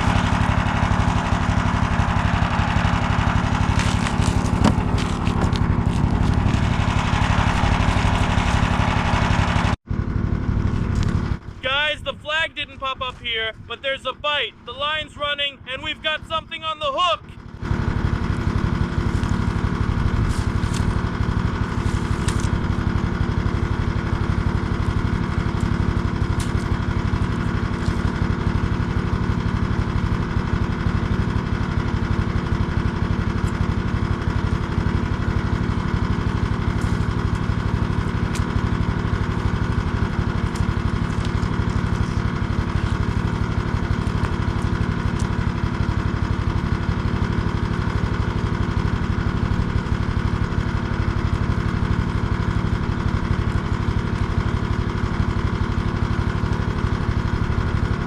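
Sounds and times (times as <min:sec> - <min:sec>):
small engine running: 0:00.0 - 0:14.0, 0:14.8 - 0:58.0.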